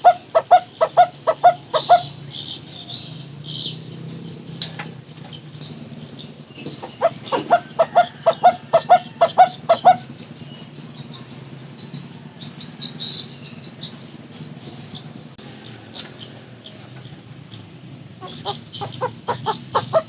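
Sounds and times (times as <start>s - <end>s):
bird calling low notes: 0.0s - 20.0s
high chirping: 0.0s - 20.0s.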